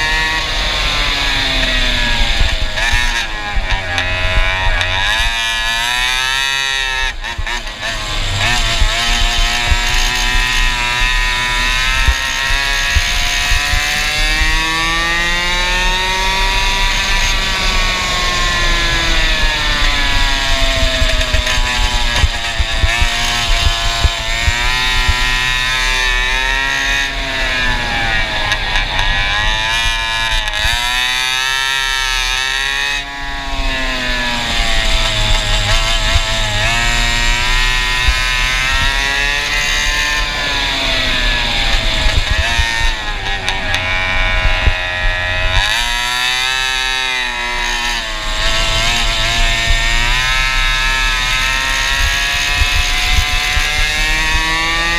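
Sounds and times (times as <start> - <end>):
go-kart engine revving: 0.0 - 54.9.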